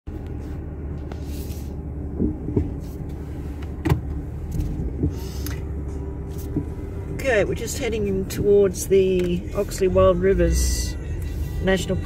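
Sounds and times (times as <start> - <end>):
engine and tyres rumbling: 0.1 - 12.0.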